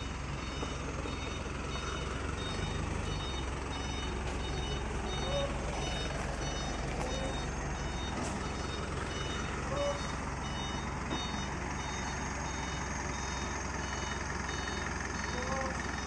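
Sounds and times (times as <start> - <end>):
reversing alarm beeping: 0.0 - 16.0
truck engine running: 0.0 - 16.0.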